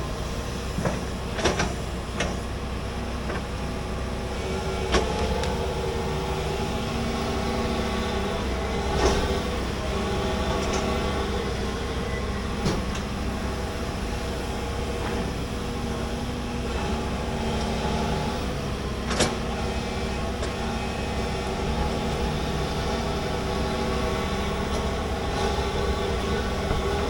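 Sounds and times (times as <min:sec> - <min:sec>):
excavator engine under load: 0:00.0 - 0:27.0.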